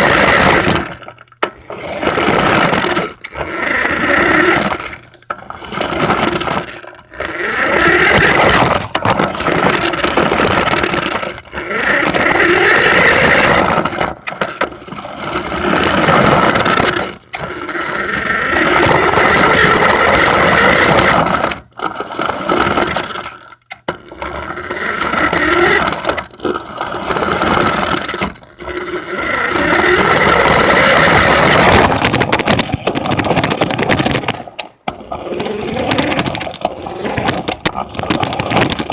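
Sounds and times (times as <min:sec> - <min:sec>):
toy truck motor whining: 0:00.0 - 0:38.9.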